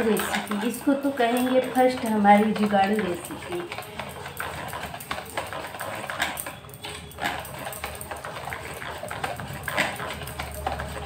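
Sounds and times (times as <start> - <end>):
whisk beating batter in metal bowl: 0.0 - 11.0.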